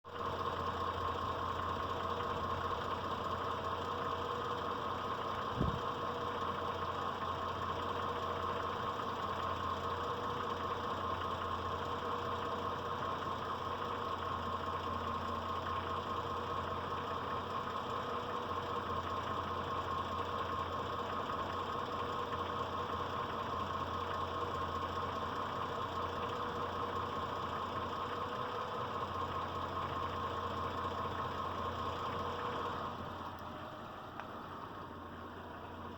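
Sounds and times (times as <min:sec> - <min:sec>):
car engine idling with knock: 0:00.1 - 0:35.9.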